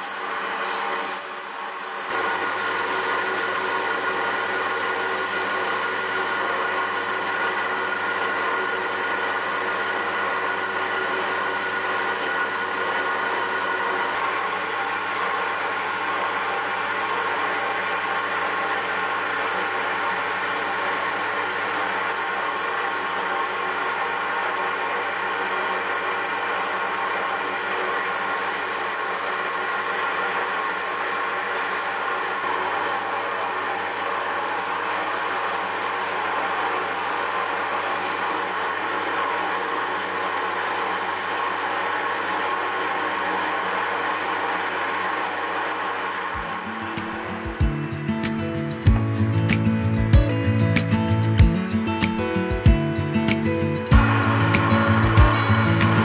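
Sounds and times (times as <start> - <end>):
lathe motor whine: 0.0 - 48.9, 52.2 - 56.0
sanding rubbing hiss: 0.0 - 48.9, 49.5 - 56.0.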